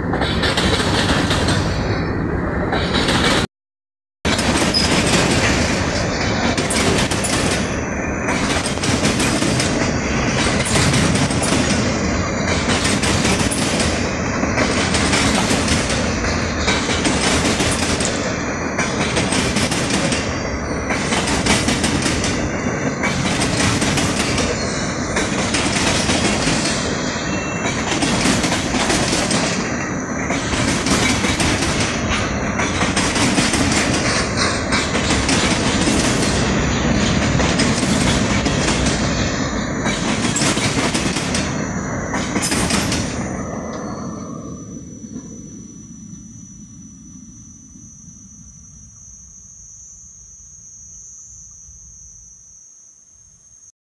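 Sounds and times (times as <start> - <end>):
freight train wheels rumbling on rails: 0.0 - 3.5, 4.3 - 47.7.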